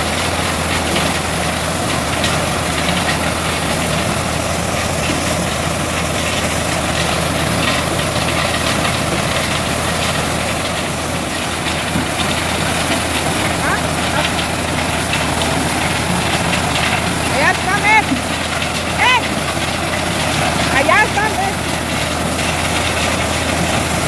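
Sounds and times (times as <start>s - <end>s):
corn sheller mechanical din: 0.0s - 24.0s
tractor engine running: 0.0s - 24.0s
faint rattles: 0.1s - 24.0s.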